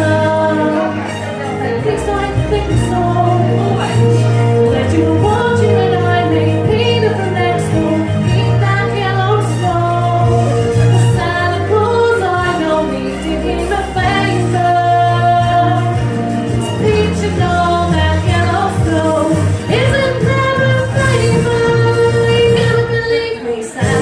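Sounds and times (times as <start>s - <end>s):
low bass line: 0.0s - 23.0s.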